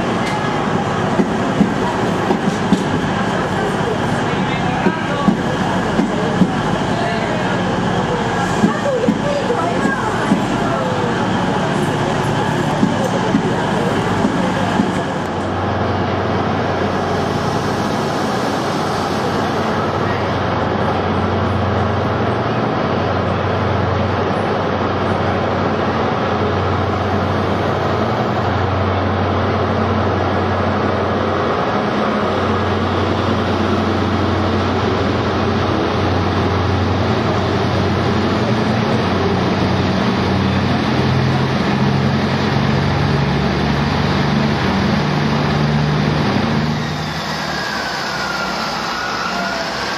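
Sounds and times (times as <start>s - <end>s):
diesel train engines droning: 0.0s - 49.9s.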